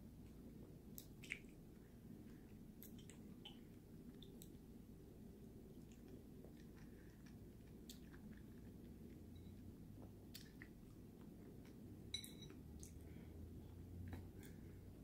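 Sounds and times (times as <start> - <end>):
low steady hum: 0.0 - 15.0
soft wet chewing: 0.2 - 15.0.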